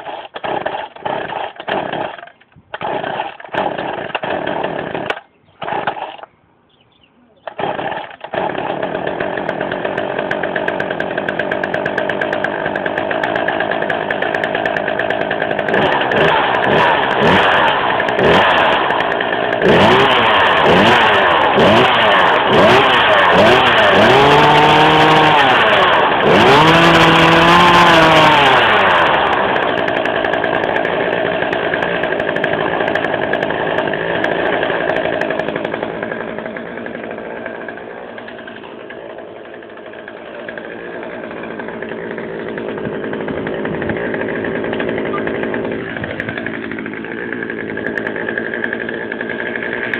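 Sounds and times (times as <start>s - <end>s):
chainsaw engine revving and idling: 0.0s - 6.3s, 7.4s - 49.9s.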